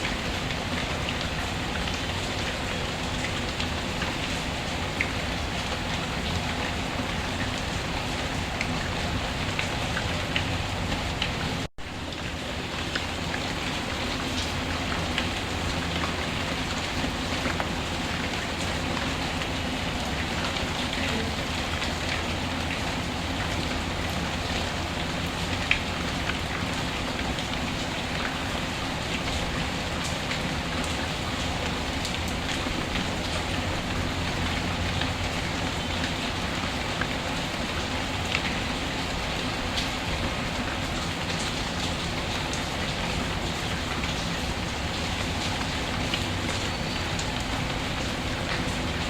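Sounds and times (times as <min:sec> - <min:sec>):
rain pattering: 0:00.0 - 0:49.0.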